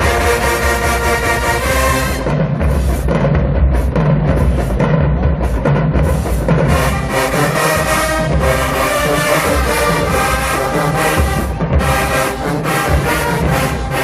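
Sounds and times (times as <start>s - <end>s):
bass drum: 0.0s - 14.0s
marching band brass chords: 0.0s - 14.0s.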